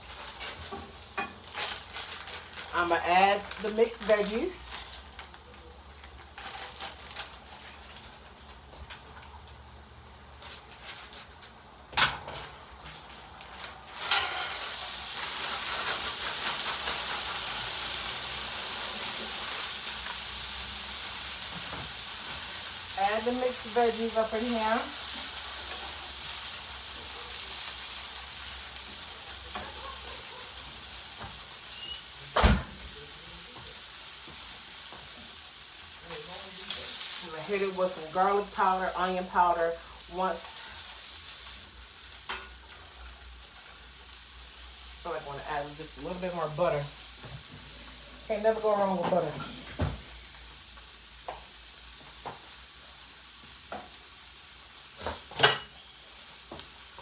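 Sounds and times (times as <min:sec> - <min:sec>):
vegetables sizzling in a skillet: 0:00.0 - 0:57.0.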